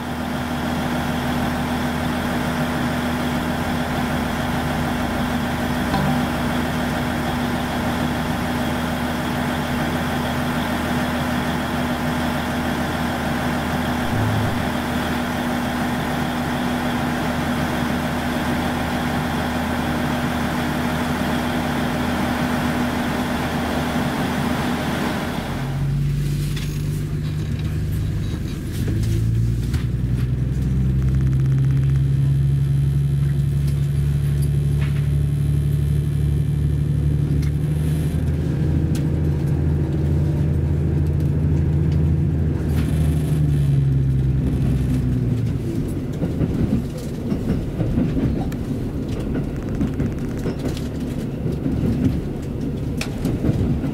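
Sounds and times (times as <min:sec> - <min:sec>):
train diesel engines running: 0:00.0 - 0:53.9.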